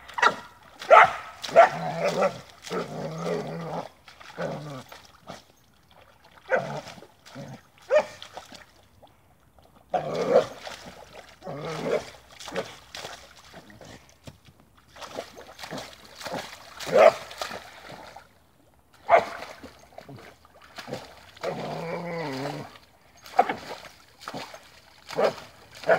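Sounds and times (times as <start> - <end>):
dog splashing in muddy water: 0.0 - 25.9.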